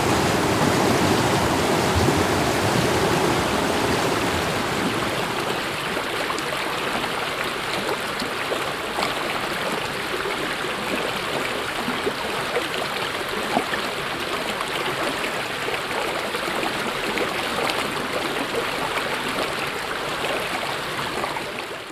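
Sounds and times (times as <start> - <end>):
stream flowing over rocks: 0.0 - 21.9.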